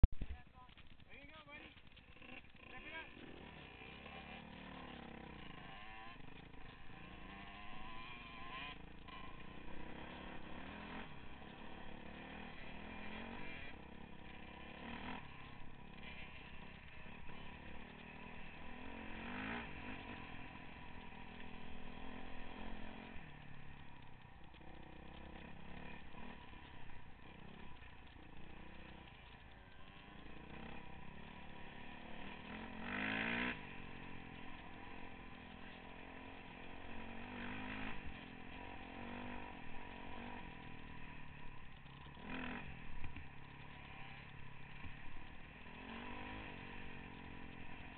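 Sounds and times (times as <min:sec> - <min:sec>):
dirt bike engine revving: 0:00.6 - 0:47.9.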